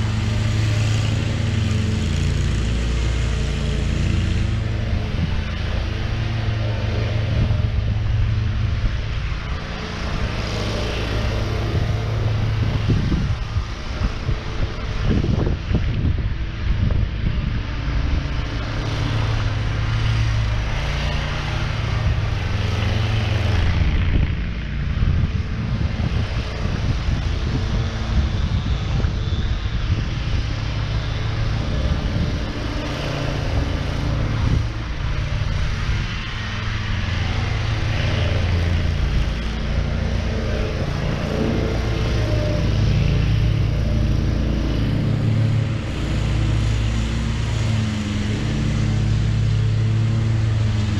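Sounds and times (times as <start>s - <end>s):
mower engine running: 0.0s - 50.9s
wind buffeting microphone: 0.0s - 50.9s.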